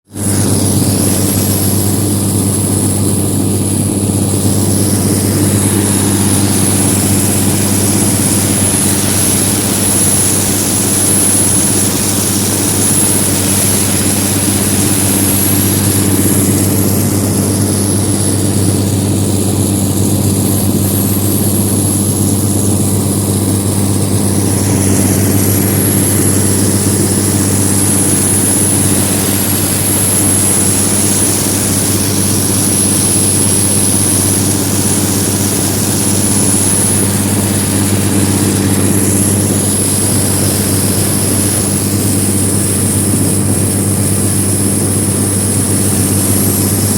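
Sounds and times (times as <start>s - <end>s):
harvest machinery engine hum: 0.0s - 46.9s
high-pitched whine: 0.0s - 46.9s.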